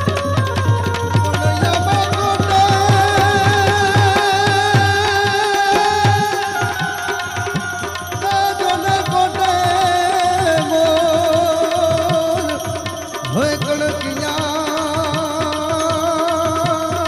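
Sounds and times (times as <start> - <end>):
tabla playing brisk rhythm: 0.0 - 17.0.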